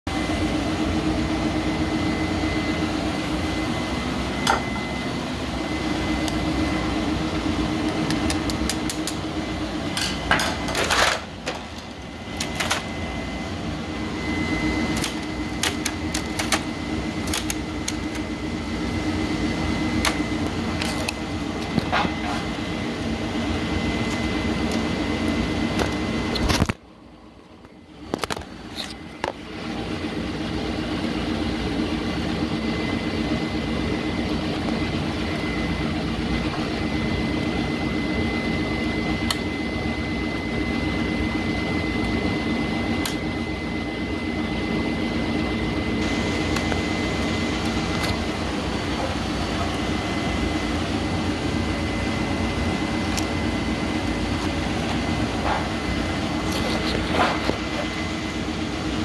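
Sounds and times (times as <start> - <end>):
mechanical hum with high whine: 0.1 - 59.0.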